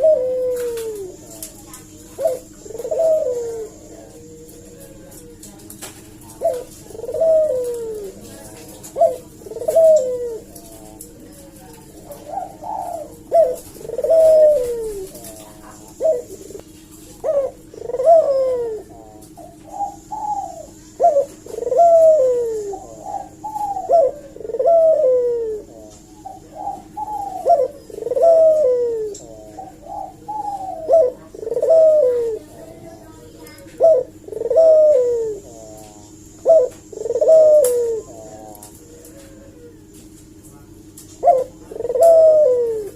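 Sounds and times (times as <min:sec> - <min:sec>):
dove cooing: 0:00.0 - 0:42.9
steady low hum: 0:00.0 - 0:42.9.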